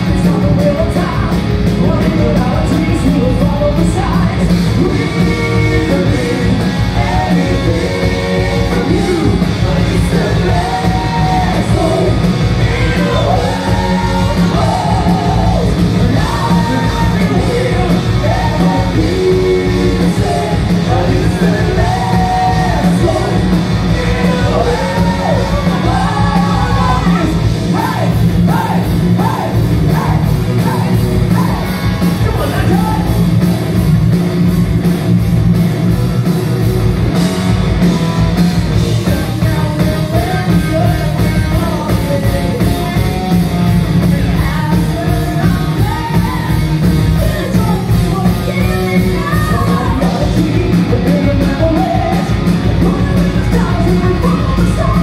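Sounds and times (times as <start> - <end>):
person singing: 0.0 - 31.7, 37.8 - 55.0
metal band playing live: 0.0 - 55.0.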